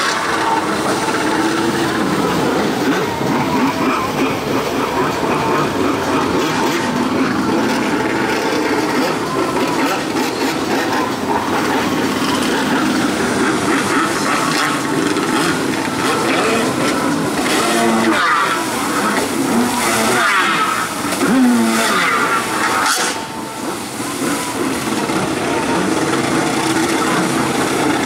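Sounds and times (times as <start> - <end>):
jet ski engine revving: 0.0 - 28.0
water rushing and spraying: 0.0 - 28.0.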